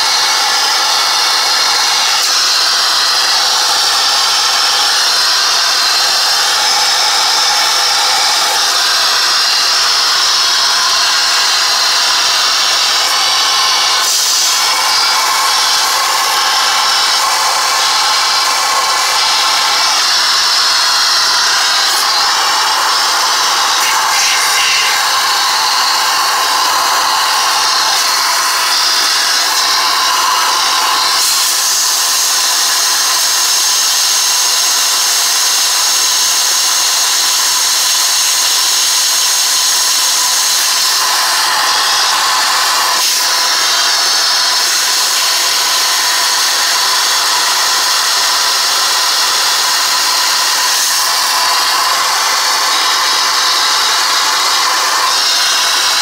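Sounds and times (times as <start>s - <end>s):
shop vacuum running: 0.0s - 56.0s.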